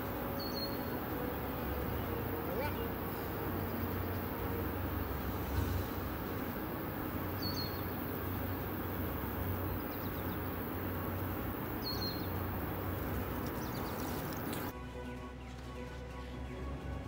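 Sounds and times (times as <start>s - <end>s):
bird chirping: 0.0s - 14.7s
low rumble: 0.0s - 14.7s
constant rush: 0.0s - 17.0s.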